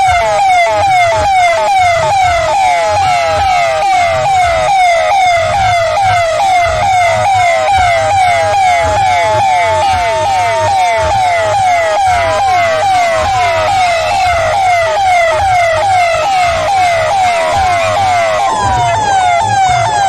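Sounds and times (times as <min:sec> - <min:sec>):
police siren yelping: 0:00.0 - 0:20.0
steady rising siren tone: 0:00.0 - 0:20.0.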